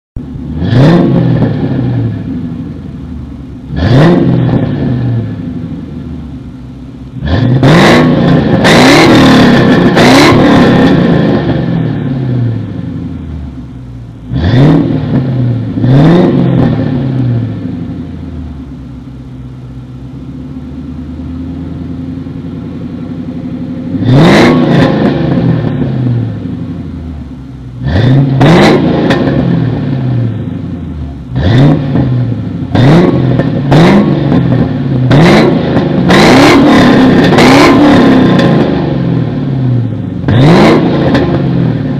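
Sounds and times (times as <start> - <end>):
car engine revving: 0.2 - 41.9.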